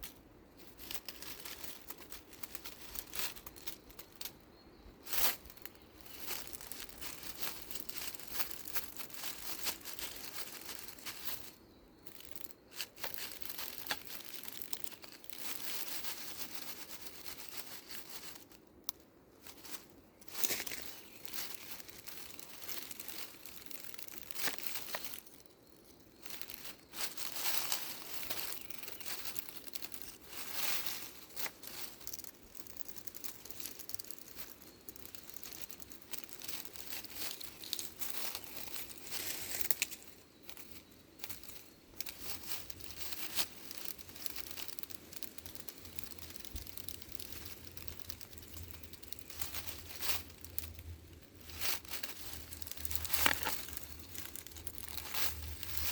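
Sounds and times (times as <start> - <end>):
rustling and crinkling: 0.0 - 55.9.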